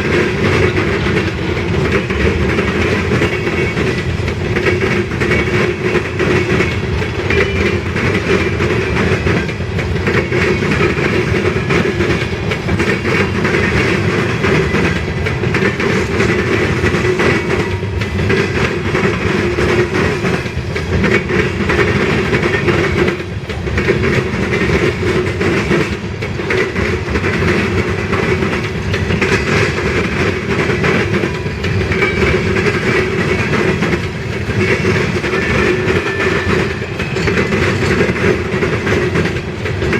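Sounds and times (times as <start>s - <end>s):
train wheels rumbling on rail: 0.0s - 39.9s
wheels clacking over rail joints: 0.0s - 39.9s.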